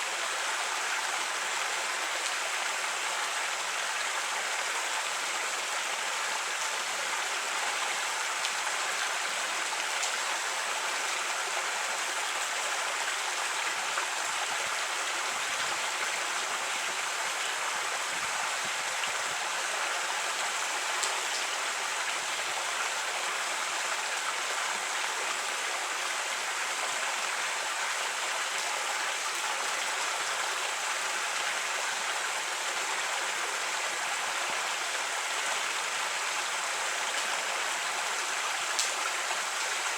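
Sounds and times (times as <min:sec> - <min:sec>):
creek water flowing over rocks: 0:00.0 - 0:39.9.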